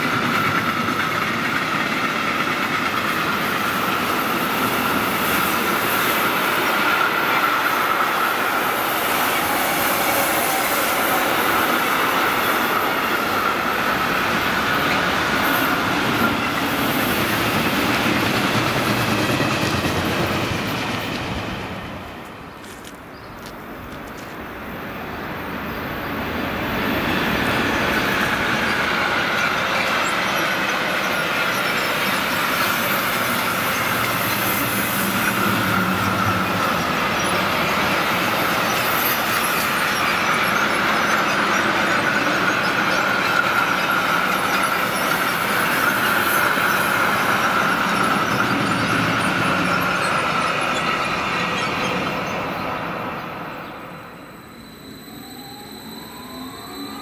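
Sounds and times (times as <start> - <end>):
wheels ringing on rails: 0.0 - 22.8, 24.9 - 57.0
freight train passing: 0.0 - 57.0.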